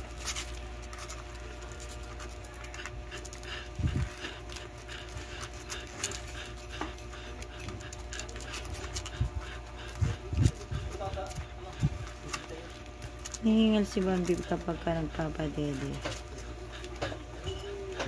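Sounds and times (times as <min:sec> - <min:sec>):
dog panting: 0:00.2 - 0:18.0.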